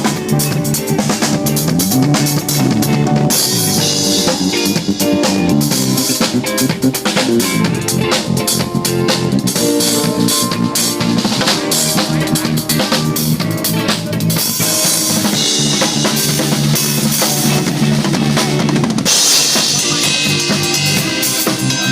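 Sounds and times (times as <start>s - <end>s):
drum kit playing: 0.0s - 21.9s.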